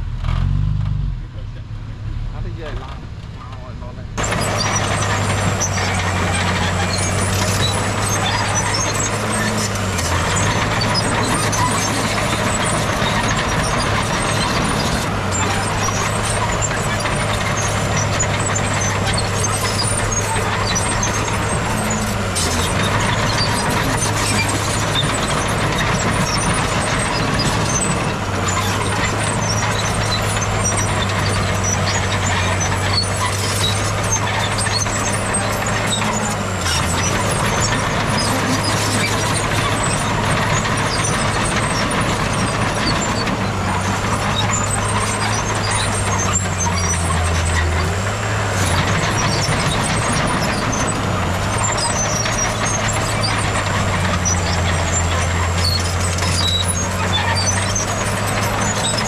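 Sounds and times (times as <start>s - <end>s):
heavy machine diesel engine running: 0.0s - 59.0s.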